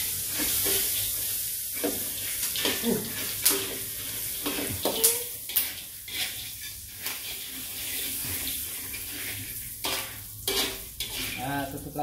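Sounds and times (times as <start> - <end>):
corn sizzling in a wok: 0.0 - 12.0
spatula scraping wok: 0.0 - 12.0.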